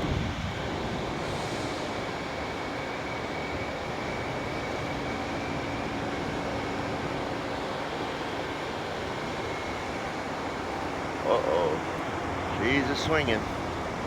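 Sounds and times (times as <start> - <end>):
crane engine rumbling: 0.0 - 14.0.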